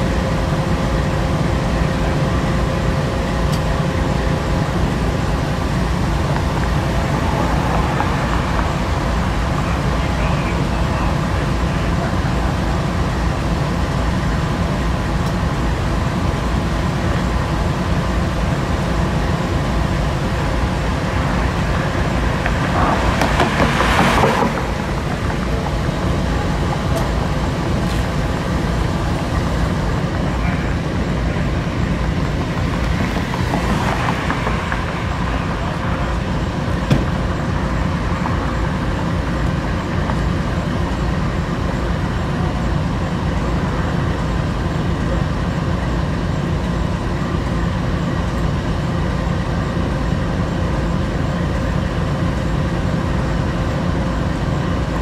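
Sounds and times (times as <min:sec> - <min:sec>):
locomotive engine idling: 0:00.0 - 0:55.0.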